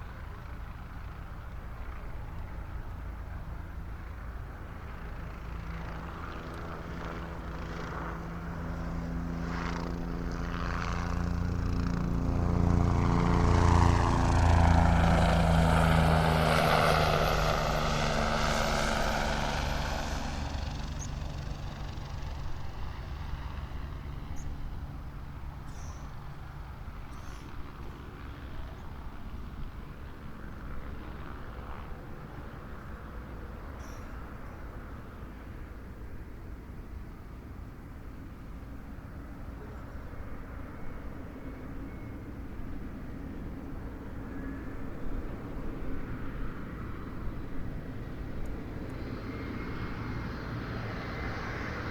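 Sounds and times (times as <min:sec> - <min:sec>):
airliner passing overhead: 0:00.0 - 0:51.9.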